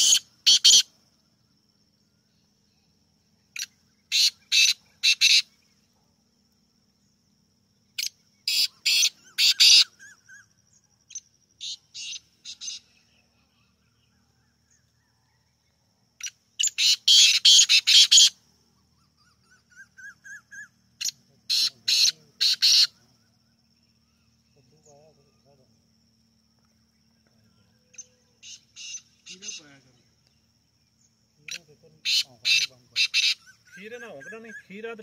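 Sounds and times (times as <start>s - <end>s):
faint chirps: 0.0s - 35.0s
francolin calling: 0.0s - 35.0s.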